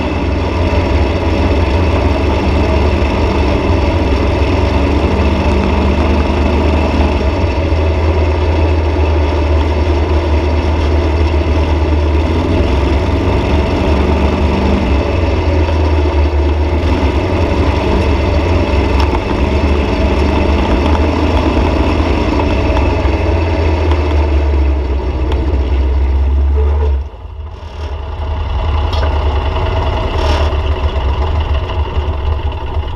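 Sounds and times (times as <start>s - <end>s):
dune buggy engine running: 0.0s - 32.9s.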